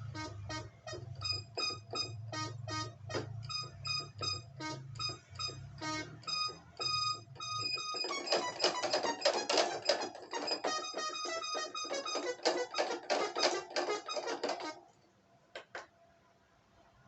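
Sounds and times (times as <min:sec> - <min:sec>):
digital piano notes: 0:00.0 - 0:14.8.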